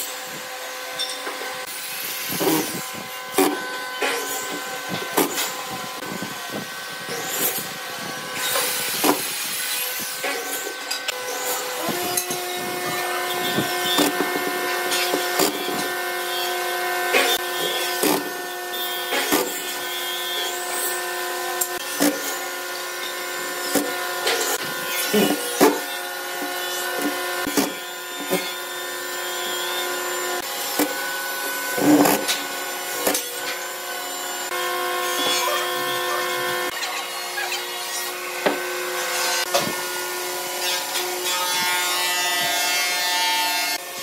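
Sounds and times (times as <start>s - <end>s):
drill motor running: 0.0s - 42.6s.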